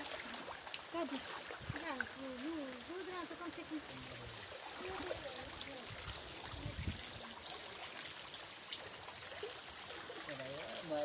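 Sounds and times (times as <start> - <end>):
heavy rain on water: 0.0 - 11.0.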